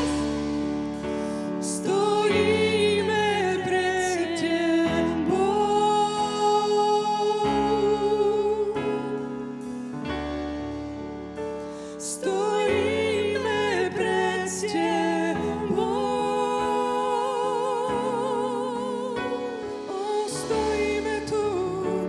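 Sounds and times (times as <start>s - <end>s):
gospel band with singers: 0.0s - 22.0s.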